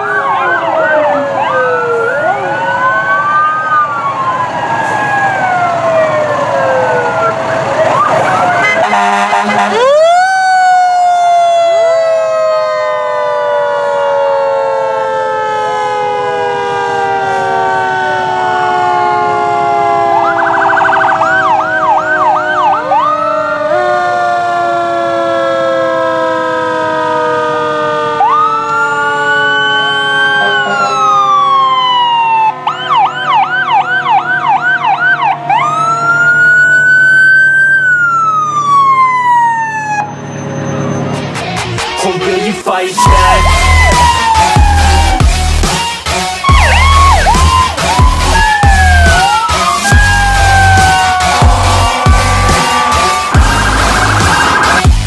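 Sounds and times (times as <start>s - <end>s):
siren yelping: 0.0s - 41.0s, 43.0s - 55.0s
fire truck siren wailing: 0.0s - 55.0s.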